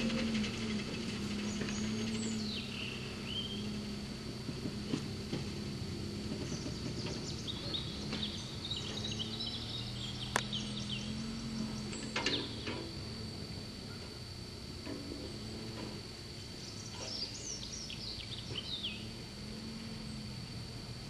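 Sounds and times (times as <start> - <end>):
birds chirping: 0.0 - 13.0, 15.2 - 20.4
car engine running at low revs: 0.0 - 21.0.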